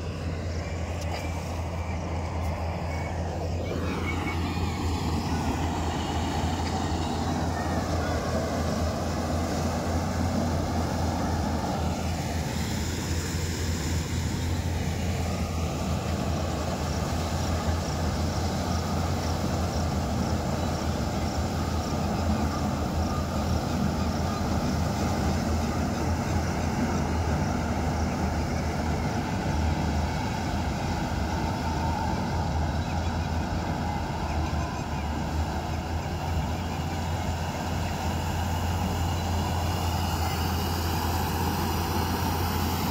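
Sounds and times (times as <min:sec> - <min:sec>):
harvester engine droning: 0:00.0 - 0:42.9
high whine: 0:00.0 - 0:42.9.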